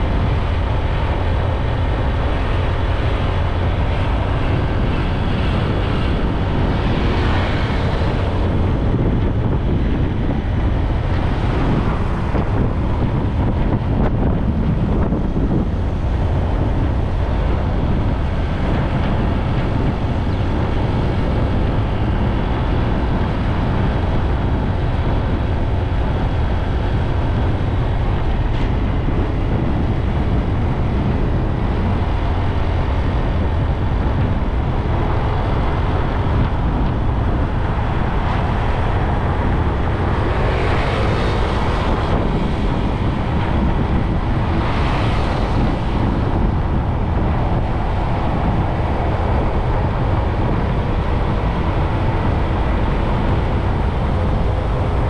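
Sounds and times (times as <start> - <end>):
motorbike road noise: 0.0 - 55.0
wind buffeting microphone: 0.0 - 55.0.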